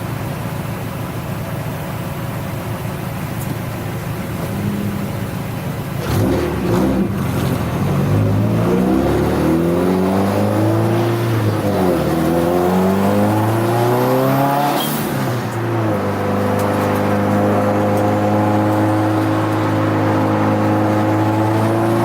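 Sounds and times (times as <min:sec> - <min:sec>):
car engine accelerating: 0:04.0 - 0:22.0.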